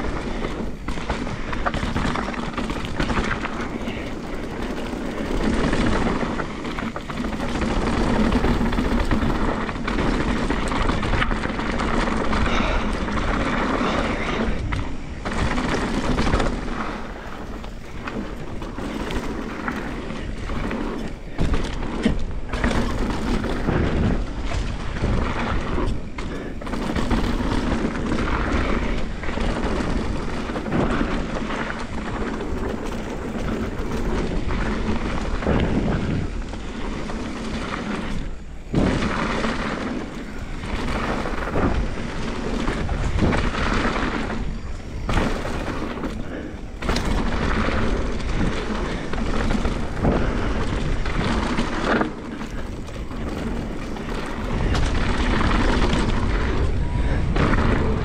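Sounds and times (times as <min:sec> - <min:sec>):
bike knocking and rattling: 0:00.0 - 0:58.0
tyres on dirt: 0:00.0 - 0:58.0
wind rushing on microphone: 0:00.0 - 0:58.0.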